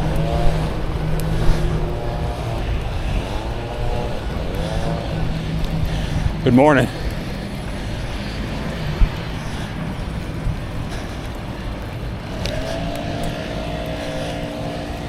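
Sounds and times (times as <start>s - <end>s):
bicycle tyres on path: 0.0s - 15.0s
steady humming tone: 0.0s - 15.0s
wind on microphone: 0.0s - 15.0s.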